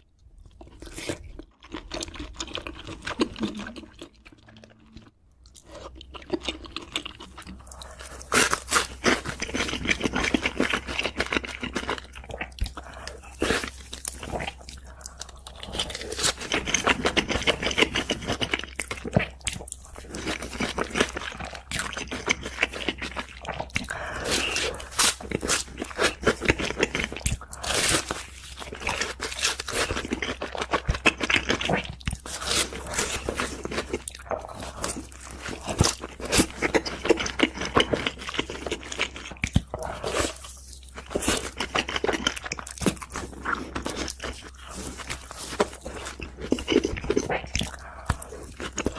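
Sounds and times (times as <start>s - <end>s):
crunchy chewing of food: 0.3s - 48.9s.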